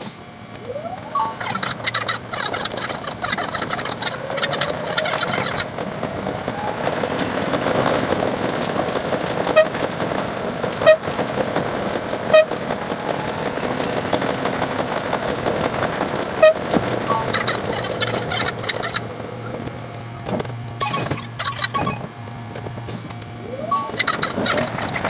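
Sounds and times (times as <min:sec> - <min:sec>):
sped-up train wheel and rail noise: 0:00.0 - 0:25.0.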